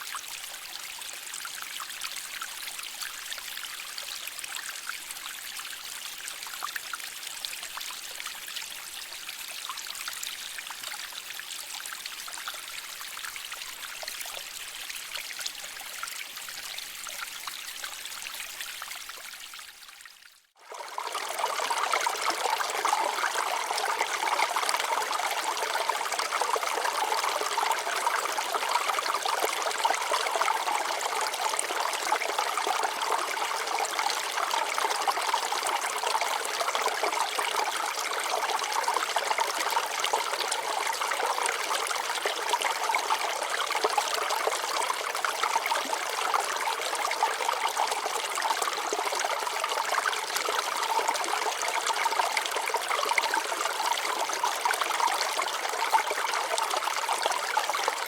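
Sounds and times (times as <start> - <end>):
water flowing over rocks: 0.0 - 58.0.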